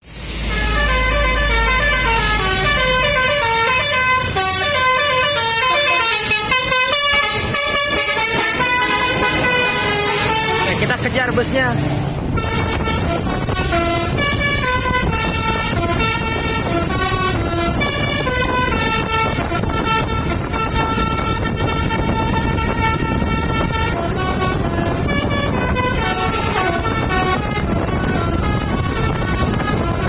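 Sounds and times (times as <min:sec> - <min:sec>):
engine and road noise: 0:00.0 - 0:30.0
bus musical air horn melody: 0:00.2 - 0:11.5, 0:12.2 - 0:30.0.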